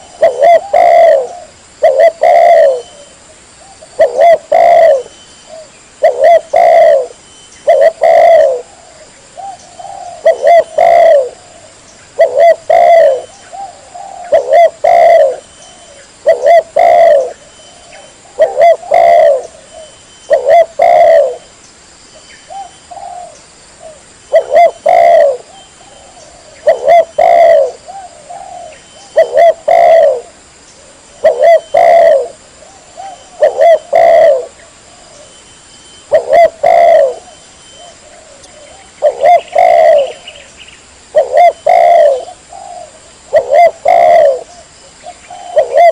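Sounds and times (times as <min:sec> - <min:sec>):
dove cooing: 0:00.0 - 0:21.5, 0:22.5 - 0:40.5, 0:41.1 - 0:45.9.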